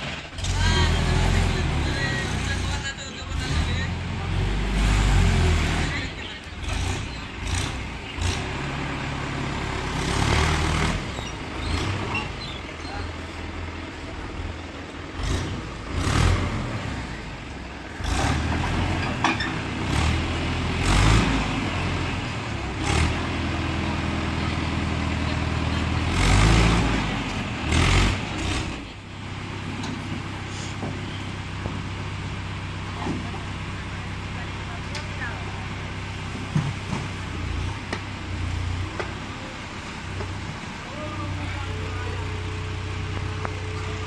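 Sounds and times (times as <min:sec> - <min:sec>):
backhoe diesel engine revving: 0:00.0 - 0:44.0.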